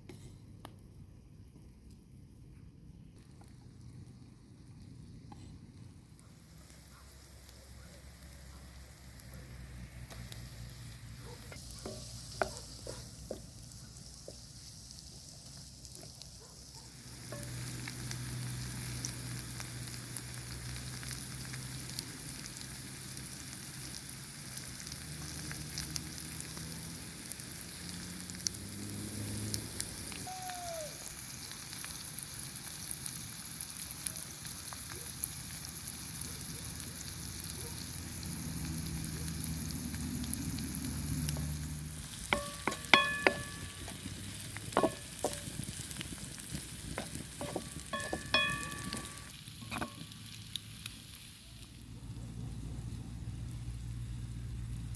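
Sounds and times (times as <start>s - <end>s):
food frying sizzle: 3.2s - 54.9s.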